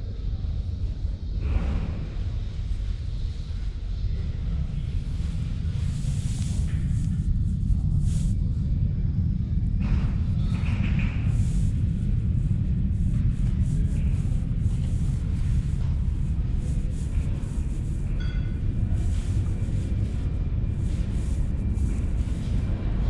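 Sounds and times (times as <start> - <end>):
trains rumbling in tunnels: 0.0 - 23.0.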